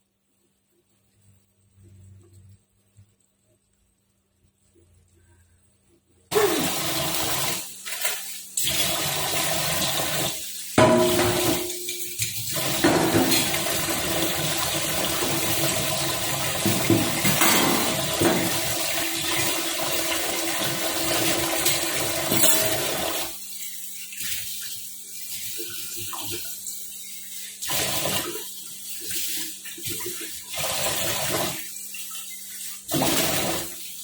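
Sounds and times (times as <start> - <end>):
water gushing: 6.3 - 34.0.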